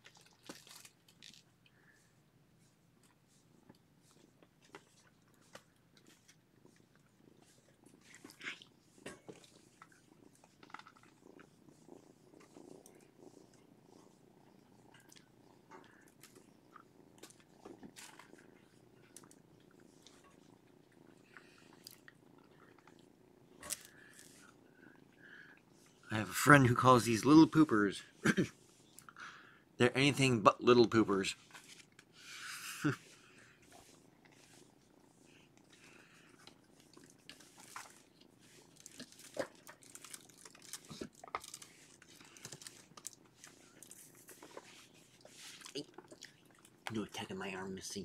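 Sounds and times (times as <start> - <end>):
soft clicks and rustles: 0.0 - 1.9, 2.6 - 26.0, 33.2 - 47.1
cat purring: 0.0 - 48.0.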